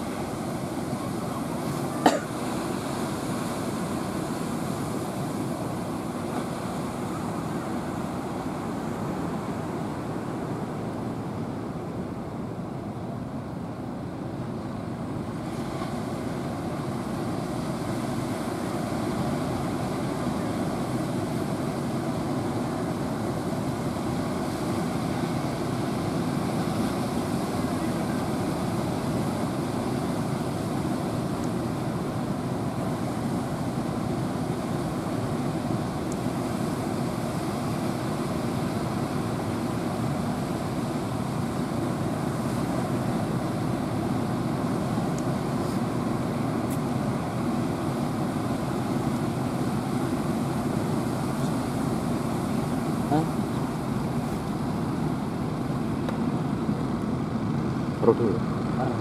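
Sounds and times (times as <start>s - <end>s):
surf breaking roar: 0.0s - 59.0s.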